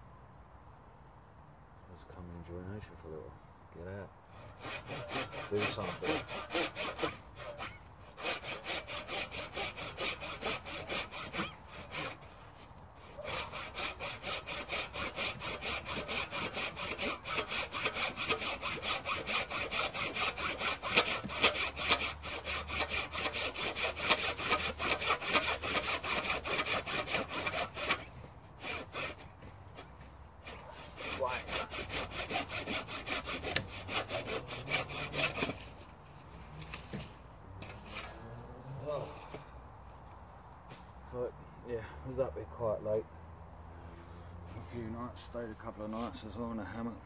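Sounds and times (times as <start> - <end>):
hand saw cutting log: 4.3 - 39.6, 44.4 - 47.0.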